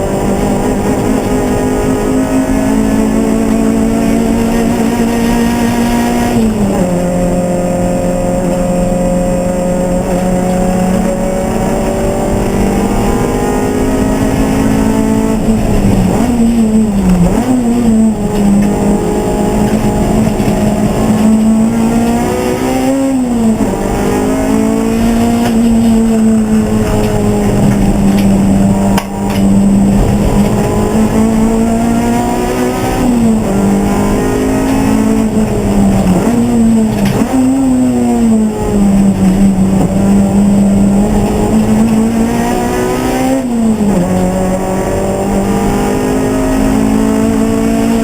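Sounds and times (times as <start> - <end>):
race car engine running hard: 0.0 - 48.0.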